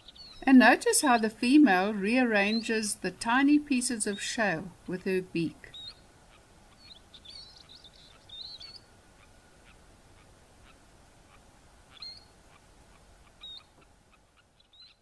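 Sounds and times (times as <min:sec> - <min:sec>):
plovers chirping: 0:00.0 - 0:15.0.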